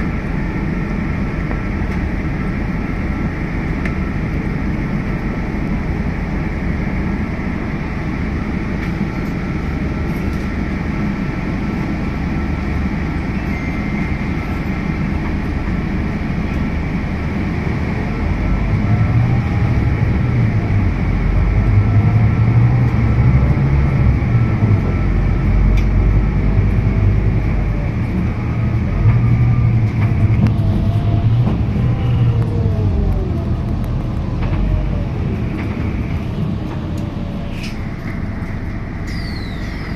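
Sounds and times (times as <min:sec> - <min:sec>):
bus engine drone: 0:00.0 - 0:39.9
low rumble: 0:00.0 - 0:39.9
whines rising and falling: 0:00.0 - 0:39.9.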